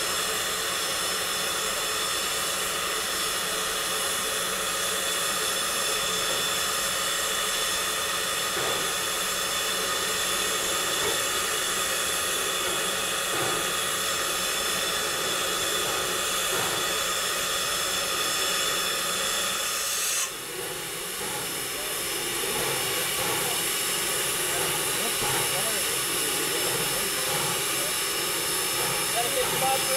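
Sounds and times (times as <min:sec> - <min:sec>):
steam locomotive hissing: 0:00.0 - 0:29.9.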